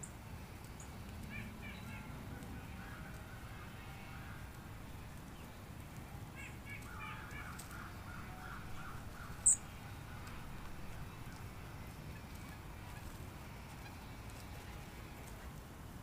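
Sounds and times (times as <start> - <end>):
wild birds calling: 0.0 - 5.7, 6.3 - 14.7.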